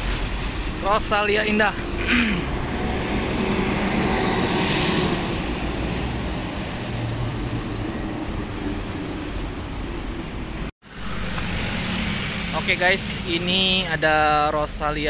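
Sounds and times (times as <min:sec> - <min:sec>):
bus driving past: 0:00.0 - 0:13.6
road traffic: 0:00.0 - 0:15.0.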